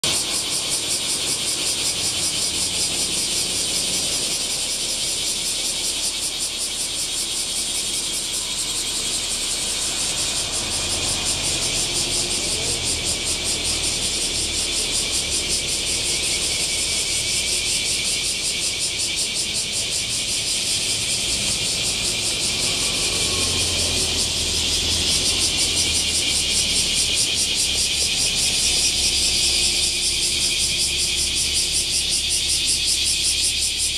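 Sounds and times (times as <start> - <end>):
cicadas buzzing: 0.0 - 33.9
road traffic: 0.0 - 33.9.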